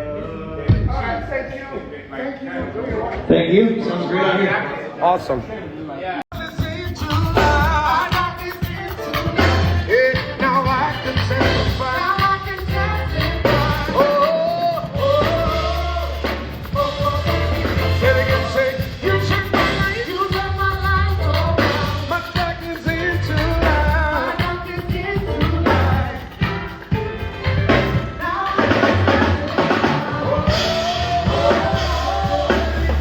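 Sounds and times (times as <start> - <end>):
band playing: 6.3 - 33.0
person singing: 6.3 - 33.0.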